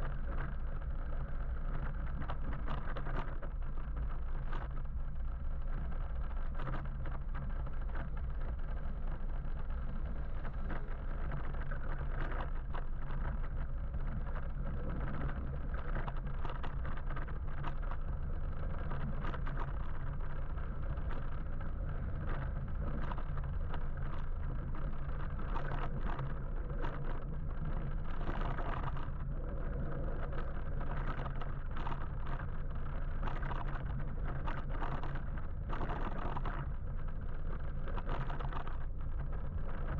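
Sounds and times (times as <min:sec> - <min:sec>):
low motor hum: 0:00.0 - 0:39.9.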